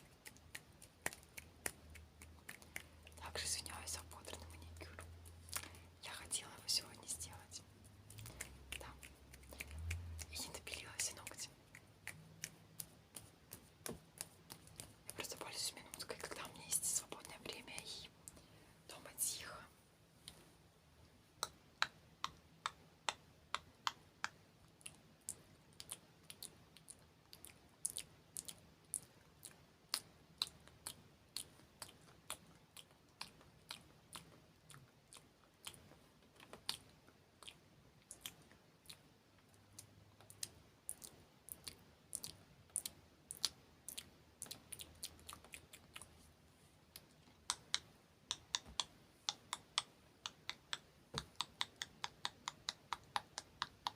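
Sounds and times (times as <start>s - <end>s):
mouth and hand clicks: 0.0s - 19.6s, 20.2s - 46.2s, 46.9s - 53.9s.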